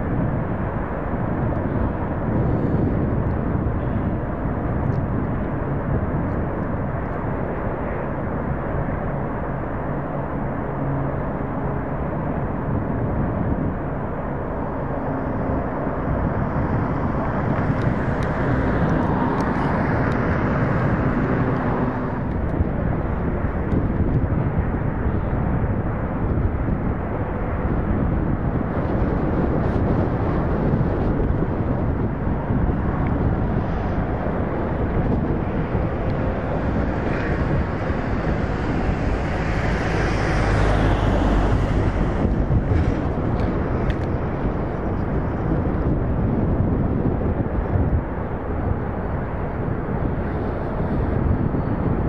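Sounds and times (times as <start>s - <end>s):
faint engine hum: 0.0s - 52.0s
freight train rumbling: 8.6s - 52.0s.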